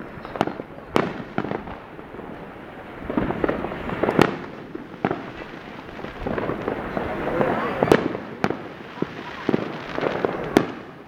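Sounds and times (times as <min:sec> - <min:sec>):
firecracker bangs: 0:00.0 - 0:11.0
rapid firework crackling: 0:00.0 - 0:11.0.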